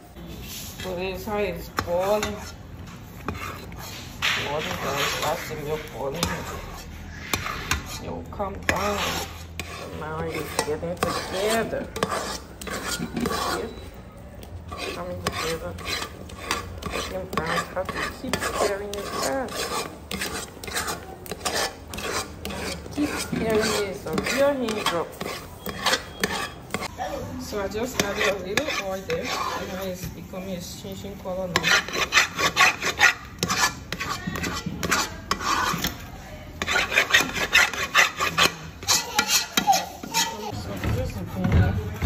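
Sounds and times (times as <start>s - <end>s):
spoon scraping metal pot: 0.2s - 41.2s.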